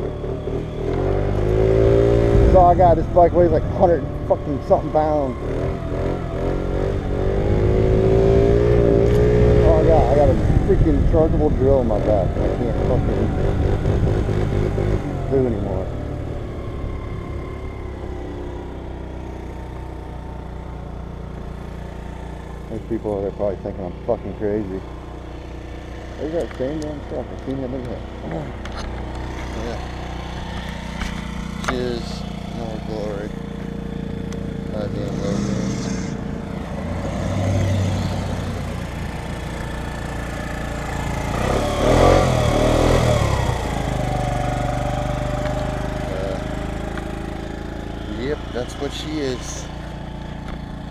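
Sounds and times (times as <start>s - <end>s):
scooter engine running: 0.0s - 50.9s.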